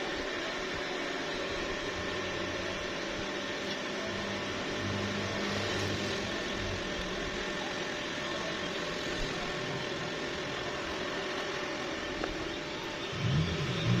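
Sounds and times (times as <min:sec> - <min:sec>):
welding arc crackling: 0:00.0 - 0:14.0
faint low hum: 0:00.1 - 0:14.0.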